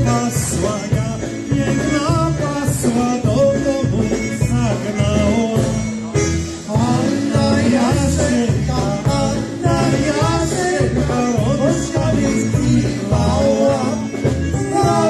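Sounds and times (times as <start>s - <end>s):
bass notes: 0.0s - 15.0s
lead vocal singing: 0.0s - 15.0s
live band music: 0.0s - 15.0s.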